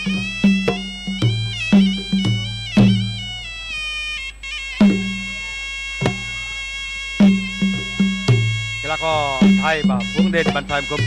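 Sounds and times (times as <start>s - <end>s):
drum beats: 0.0s - 3.8s, 4.5s - 11.0s
reed oboe melody: 0.0s - 11.0s.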